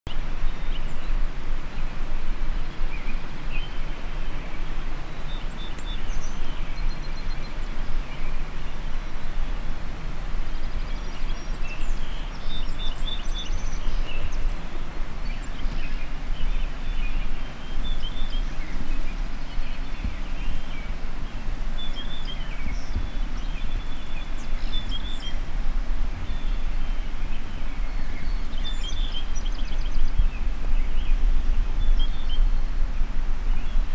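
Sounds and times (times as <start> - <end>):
faint bird chirps: 2.6 - 9.6, 10.5 - 25.5, 26.2 - 33.9.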